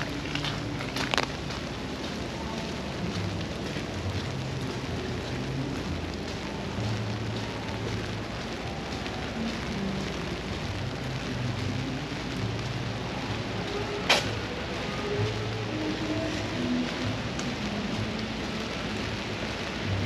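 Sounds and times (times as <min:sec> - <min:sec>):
rain pattering on wet surfaces: 0:00.0 - 0:20.0.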